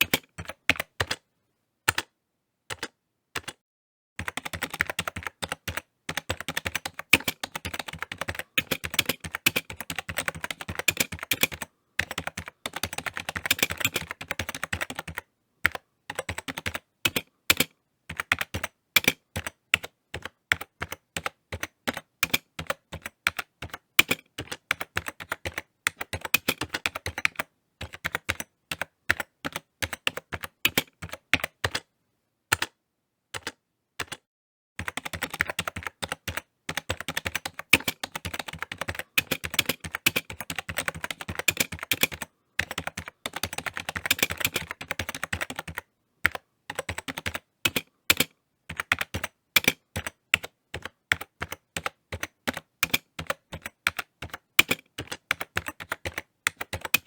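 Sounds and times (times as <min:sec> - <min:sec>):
typing on computer keyboard: 0:00.0 - 0:01.2, 0:01.9 - 0:02.1, 0:02.7 - 0:03.6, 0:04.2 - 0:31.9, 0:32.5 - 0:34.2, 0:34.8 - 0:57.0.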